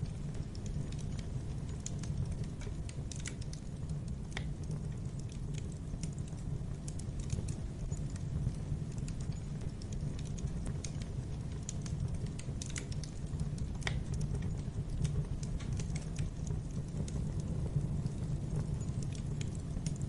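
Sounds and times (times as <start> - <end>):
fire popping and snapping: 0.0 - 20.0
flames rumbling: 0.0 - 20.0.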